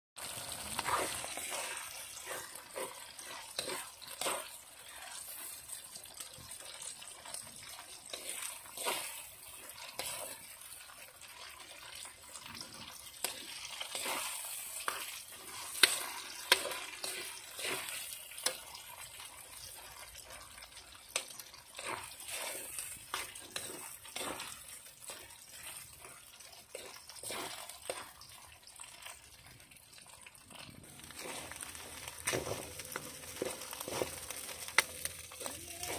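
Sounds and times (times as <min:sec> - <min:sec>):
food being stirred: 0:00.2 - 0:35.9.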